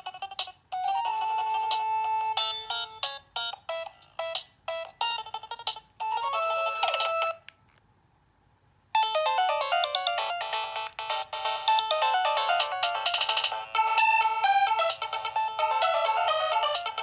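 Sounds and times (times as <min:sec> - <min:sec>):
electronic ringtone melody: 0:00.8 - 0:05.4, 0:06.0 - 0:07.4, 0:09.0 - 0:17.0.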